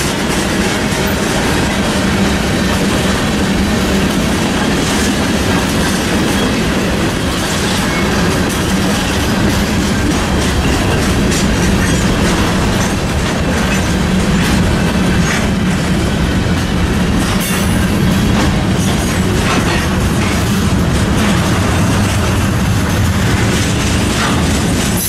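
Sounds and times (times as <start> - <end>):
freight train rumbling past: 0.0 - 25.0
wheels clattering over rail joints: 0.0 - 25.0.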